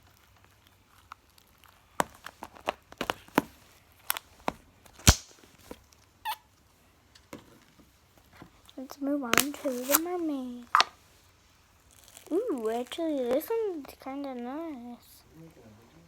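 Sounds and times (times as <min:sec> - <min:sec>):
hands handling slime and packaging: 0:00.0 - 0:15.0.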